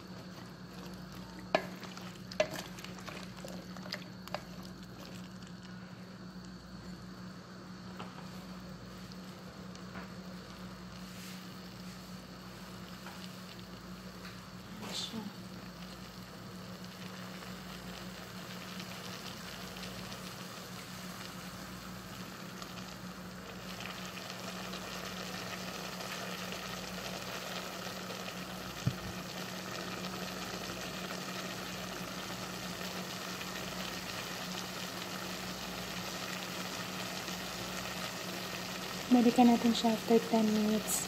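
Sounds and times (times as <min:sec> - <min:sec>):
low steady hum: 0:00.0 - 0:41.0
pot bubbling and crackling: 0:00.0 - 0:41.0.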